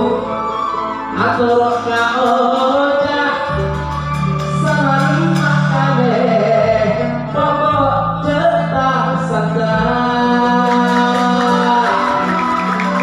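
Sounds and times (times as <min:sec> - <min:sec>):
band playing live: 0:00.0 - 0:13.0
long held bass notes: 0:00.0 - 0:13.0
man singing into microphone: 0:00.0 - 0:13.0.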